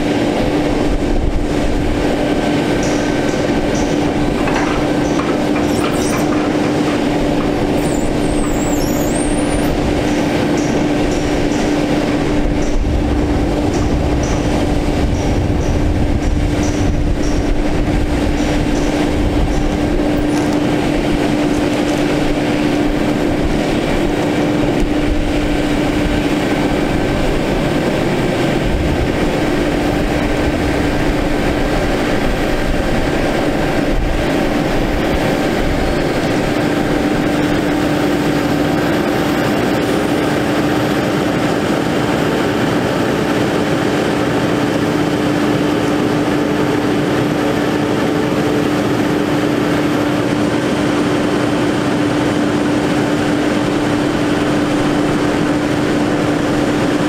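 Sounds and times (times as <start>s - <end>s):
diesel truck engine droning: 0.0s - 57.0s
hydraulic hum: 0.0s - 57.0s.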